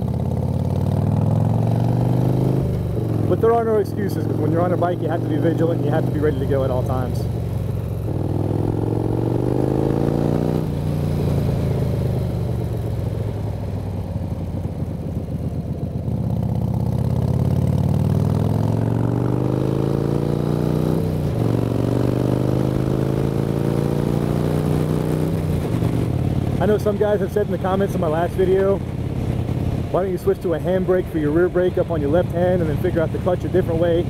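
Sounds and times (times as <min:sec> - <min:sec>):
motorcycle engine shifting gears: 0:00.0 - 0:34.0.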